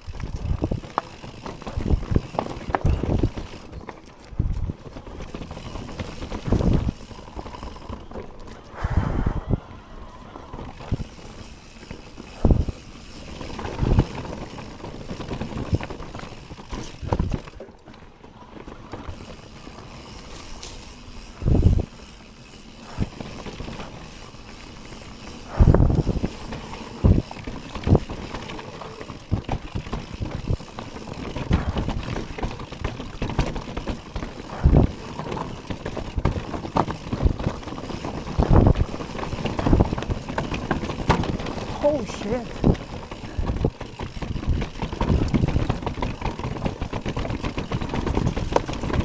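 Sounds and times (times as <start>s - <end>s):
bike tyres rushing with rattling: 0.0s - 49.0s.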